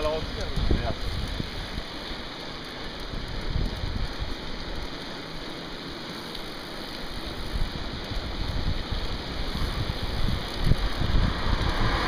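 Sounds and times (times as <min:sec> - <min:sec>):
wind buffeting microphone: 0:00.0 - 0:05.6, 0:06.9 - 0:12.0
bike tyres rolling on tarmac: 0:00.0 - 0:12.0.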